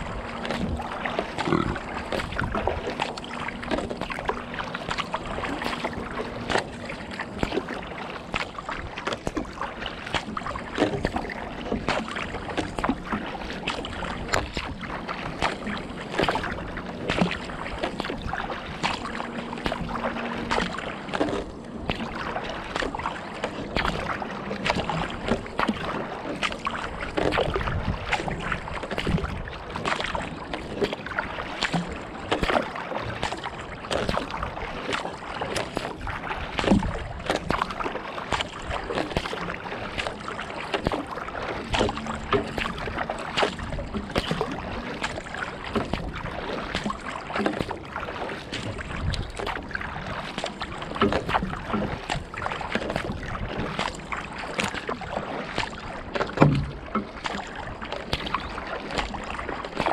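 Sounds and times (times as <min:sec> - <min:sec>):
bow wave washing along hull: 0:00.0 - 0:59.9
paddle splashes and drips: 0:00.0 - 0:59.9.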